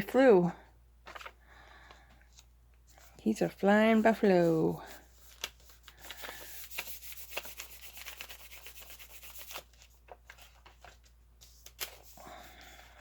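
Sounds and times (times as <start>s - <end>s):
paper rustling: 1.0s - 13.0s.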